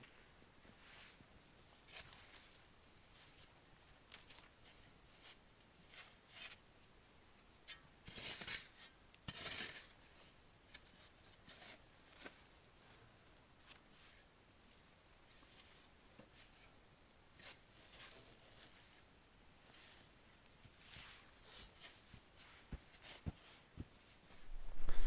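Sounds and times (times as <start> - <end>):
rustling and scraping: 0.0 - 6.6, 7.6 - 25.0.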